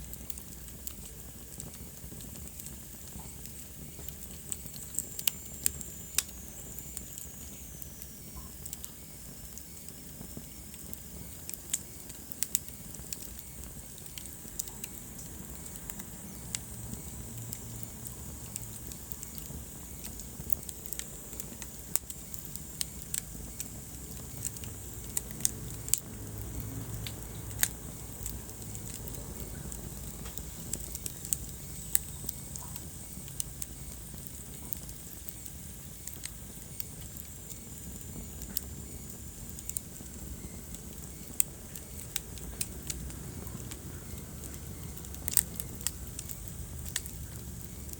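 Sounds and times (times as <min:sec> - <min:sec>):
low rumble of flame: 0:00.0 - 0:47.9
wood fire crackling and popping: 0:00.0 - 0:47.9.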